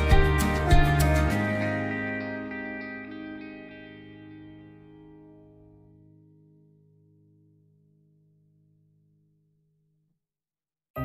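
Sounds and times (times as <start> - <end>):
faint guitar-like music: 0.0 - 9.1.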